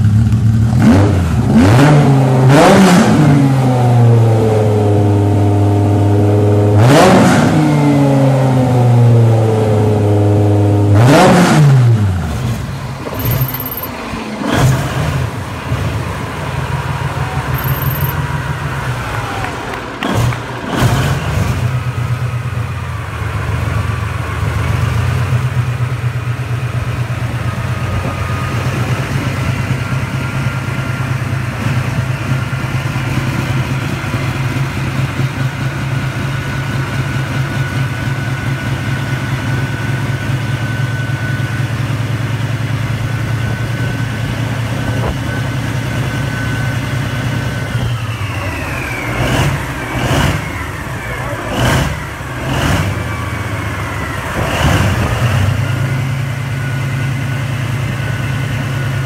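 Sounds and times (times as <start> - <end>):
diesel engine droning: 0.0 - 59.0
high engine whine: 0.0 - 59.0
loud engine surges: 0.0 - 59.0.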